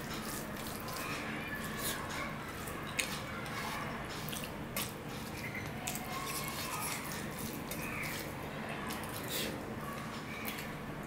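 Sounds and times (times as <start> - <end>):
wet squishy eating sounds: 0.0 - 11.0.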